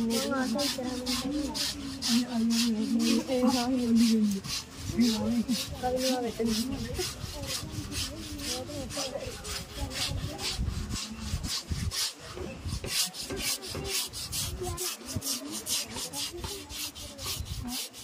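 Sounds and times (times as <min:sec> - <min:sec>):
scrubber rasping over wet hide: 0:00.0 - 0:18.0.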